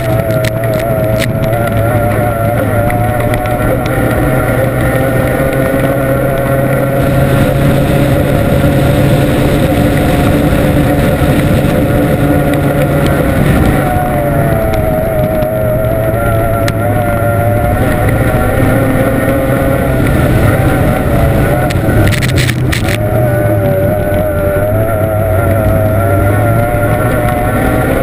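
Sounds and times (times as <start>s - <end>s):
outboard engine running flat out: 0.0s - 28.0s
rush of wind and water: 0.0s - 28.0s.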